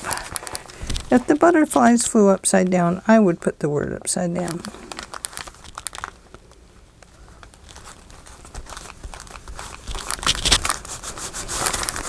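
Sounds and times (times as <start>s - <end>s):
paper rustling and crinkling: 0.0s - 2.4s, 4.4s - 12.0s.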